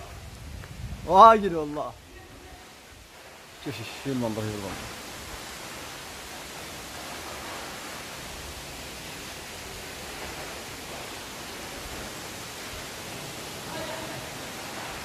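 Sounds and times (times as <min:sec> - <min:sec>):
steady rushing hiss: 0:00.0 - 0:15.0.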